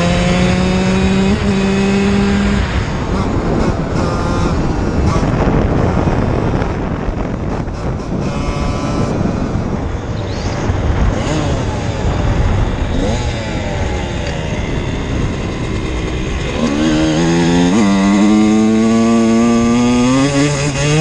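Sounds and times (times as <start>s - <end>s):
dirt bike engine revving: 0.0s - 21.0s
wind rumble: 0.0s - 21.0s.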